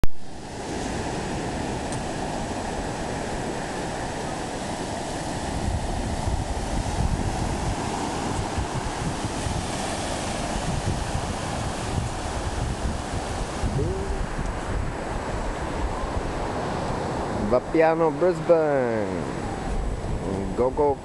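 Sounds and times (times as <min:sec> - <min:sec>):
ocean surf breaking on beach: 0:00.0 - 0:21.0
wind buffeting microphone: 0:00.2 - 0:21.0.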